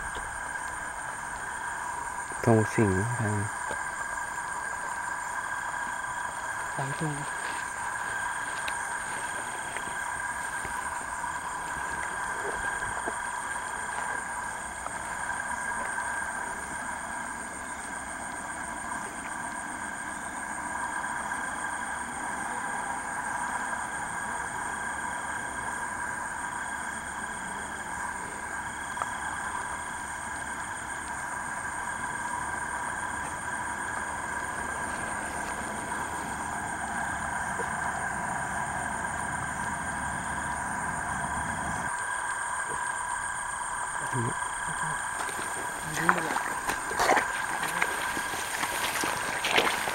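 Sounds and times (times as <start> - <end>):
insects and frogs trilling: 0.0 - 49.9.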